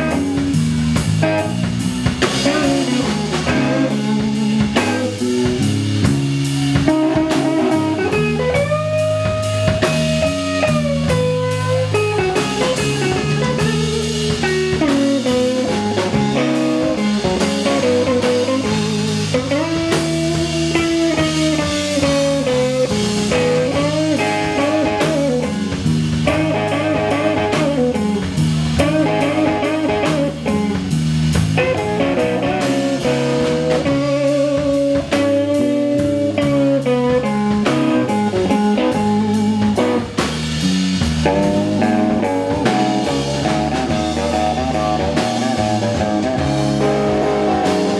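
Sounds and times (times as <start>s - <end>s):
bass guitar: 0.0s - 47.9s
drum kit: 0.0s - 47.9s
electric guitar lead notes bending: 0.0s - 47.9s.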